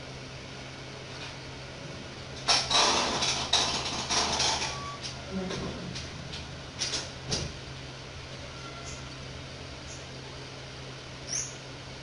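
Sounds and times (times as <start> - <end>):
fan hum: 0.0 - 12.0.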